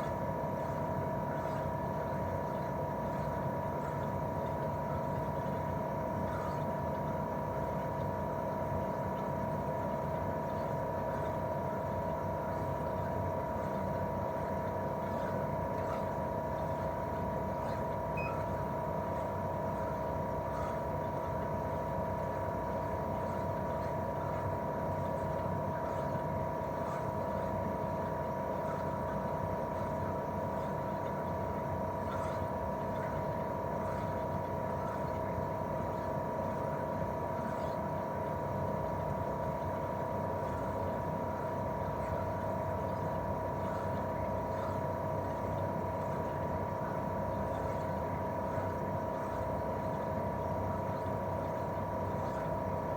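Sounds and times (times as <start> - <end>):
air conditioner unit running: 0.0 - 52.9.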